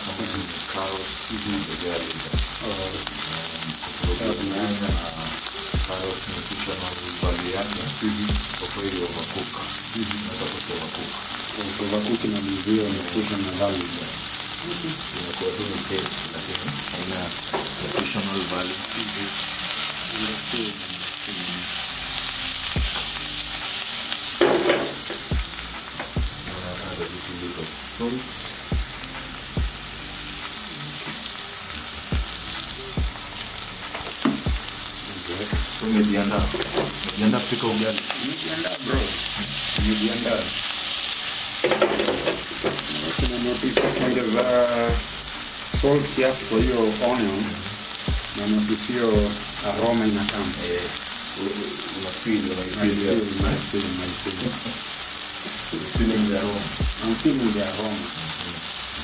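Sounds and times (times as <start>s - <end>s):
onions sizzling in oil: 0.0s - 59.0s.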